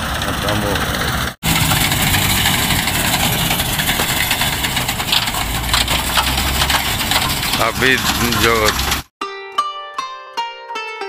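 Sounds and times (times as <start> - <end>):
combine harvester engine hum: 0.0 - 9.1
machinery rattle and clatter: 0.0 - 9.1.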